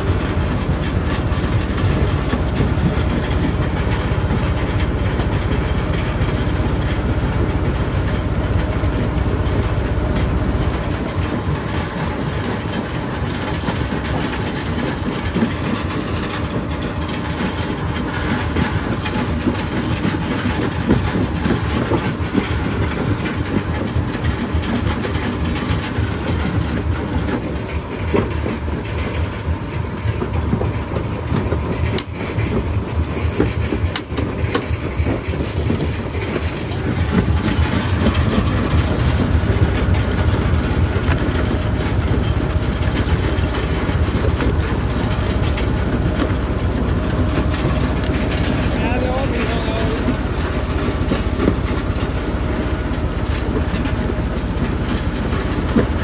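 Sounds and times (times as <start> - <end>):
jaw crusher rumble: 0.0 - 56.0.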